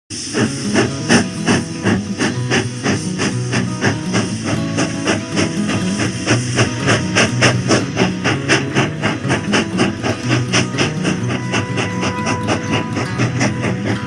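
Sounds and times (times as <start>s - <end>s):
music: 0.1s - 14.0s
steam locomotive chuffing: 0.1s - 14.0s.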